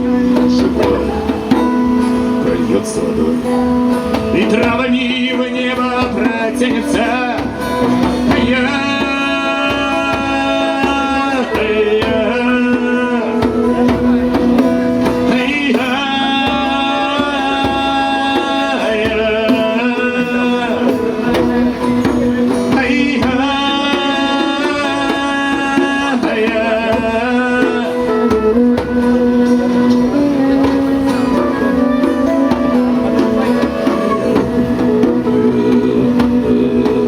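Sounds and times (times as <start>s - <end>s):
hand percussion: 0.0s - 37.0s.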